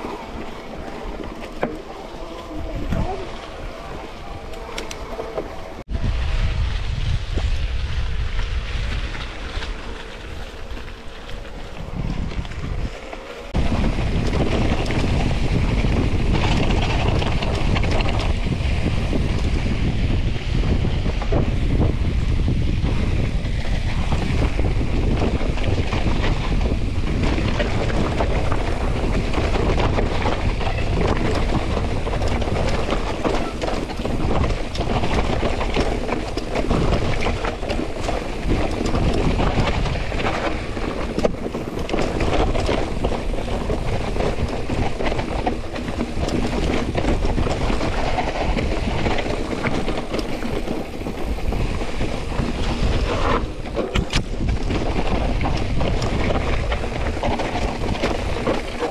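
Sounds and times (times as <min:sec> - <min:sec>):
bike rattling and knocking: 0:00.0 - 0:58.9
wind rushing over microphone: 0:00.0 - 0:58.9.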